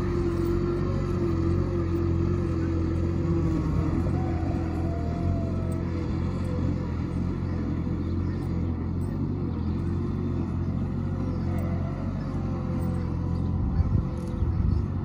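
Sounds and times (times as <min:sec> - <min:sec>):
loader engine humming: 0:00.0 - 0:15.0.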